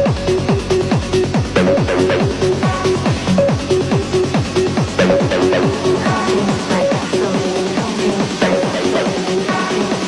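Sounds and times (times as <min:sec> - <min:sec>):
kick drum: 0:00.0 - 0:10.0.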